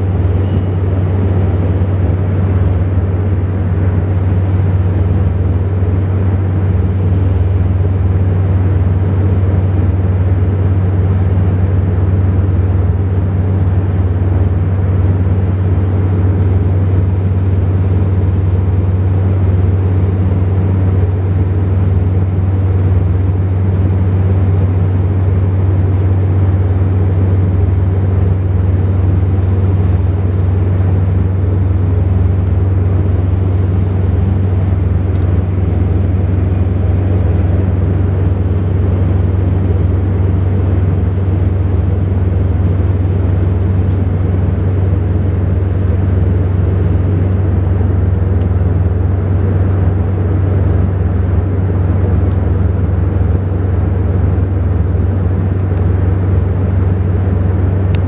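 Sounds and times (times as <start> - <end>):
propeller drone: 0.0 - 58.0.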